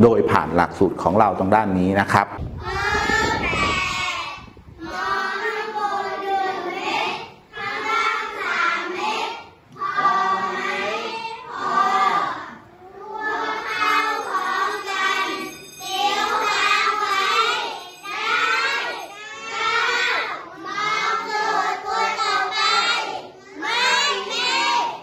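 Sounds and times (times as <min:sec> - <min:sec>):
children chanting in unison: 0:02.6 - 0:25.0.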